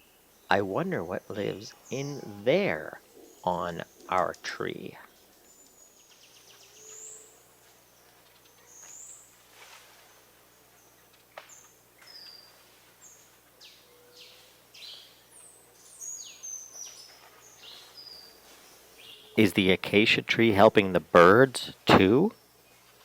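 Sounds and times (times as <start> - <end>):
wild birds chirping and whistling: 0.0 - 23.0.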